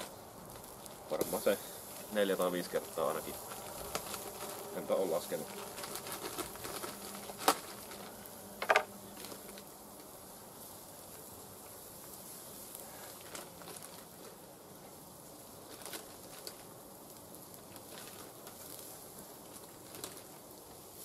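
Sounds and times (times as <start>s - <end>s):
clicks and crackles: 0.0s - 21.0s
sausages sizzling on a grill: 0.0s - 21.0s.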